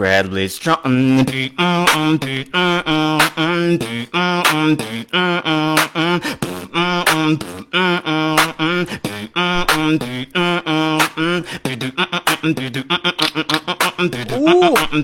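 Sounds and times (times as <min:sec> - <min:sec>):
beatboxing vocal notes: 0:00.6 - 0:15.0
beatboxing percussive clicks: 0:01.1 - 0:15.0.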